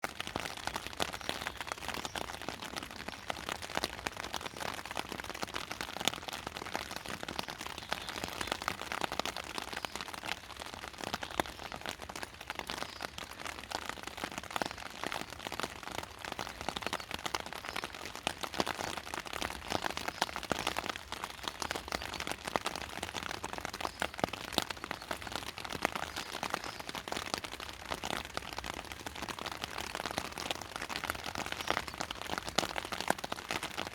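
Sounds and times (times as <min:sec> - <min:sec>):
soft rain patter: 0:00.0 - 0:33.9.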